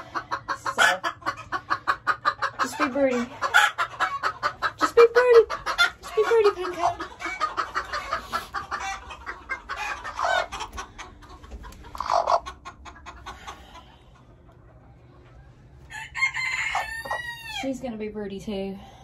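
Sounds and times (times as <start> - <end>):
drawn-out chicken call: 0.0 - 14.3, 15.3 - 17.7
chickens clucking: 0.0 - 17.8.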